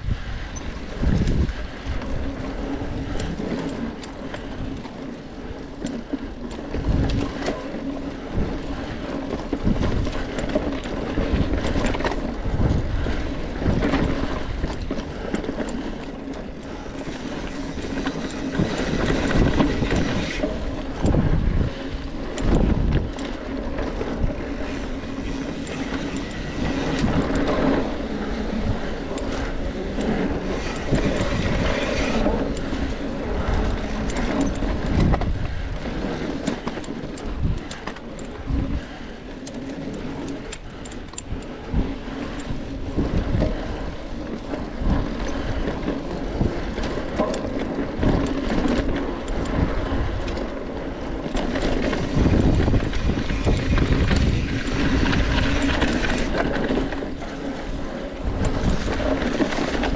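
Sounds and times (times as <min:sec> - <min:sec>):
wind rush on microphone: 0:00.0 - 0:59.9
bicycle clattering over bumps: 0:00.3 - 0:59.9.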